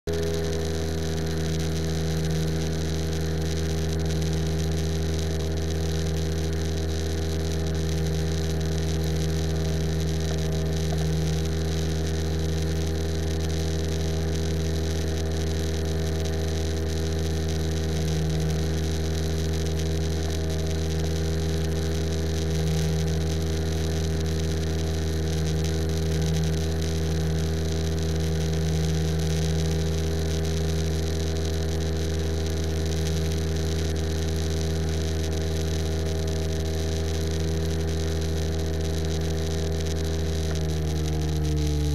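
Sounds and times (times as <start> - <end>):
small plane engine droning: 0.1 - 41.9.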